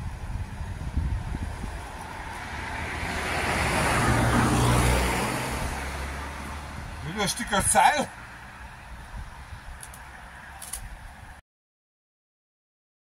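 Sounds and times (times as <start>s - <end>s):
car passing: 0.0s - 11.4s.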